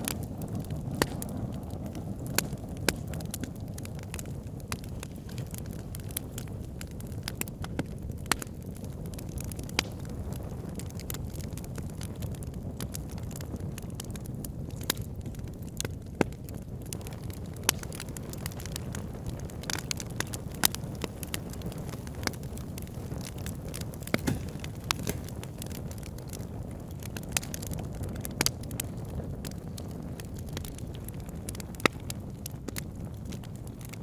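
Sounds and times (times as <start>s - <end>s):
fire crackles and pops: 0.0s - 34.0s
low rumble of flames: 0.0s - 34.0s.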